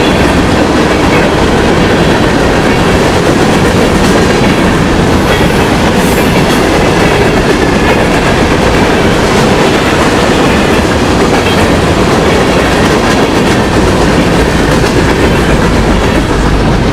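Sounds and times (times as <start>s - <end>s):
freight train rumbling past: 0.0s - 16.9s.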